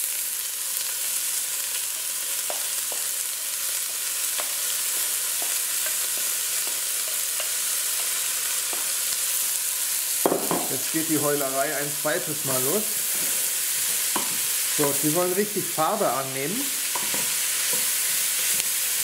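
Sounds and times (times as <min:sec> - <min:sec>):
onions sizzling in hot fat: 0:00.0 - 0:19.0.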